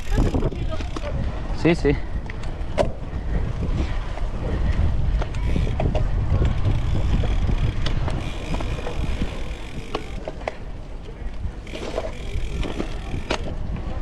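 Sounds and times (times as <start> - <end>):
bike clicks and rattles: 0.0 - 14.0
bike tyres rolling on dirt: 0.0 - 14.0
wind buffeting microphone: 0.0 - 14.0.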